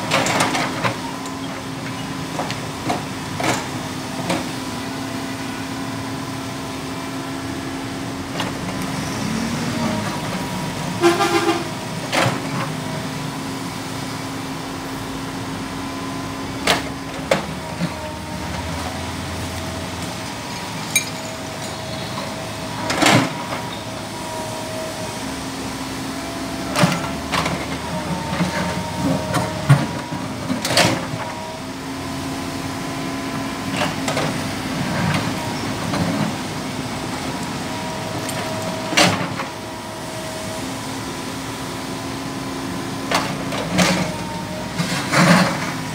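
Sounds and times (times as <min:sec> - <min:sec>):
excavator engine hum: 0:00.0 - 0:45.9.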